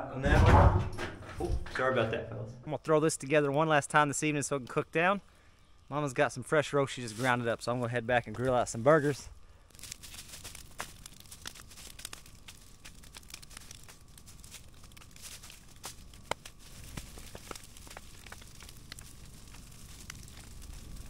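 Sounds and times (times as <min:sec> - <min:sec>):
wood fire crackling and popping: 0:02.8 - 0:21.0.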